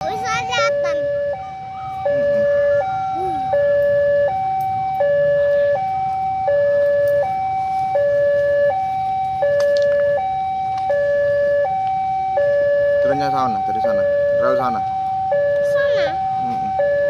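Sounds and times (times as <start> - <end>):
level crossing two-tone alarm: 0.1 - 17.0.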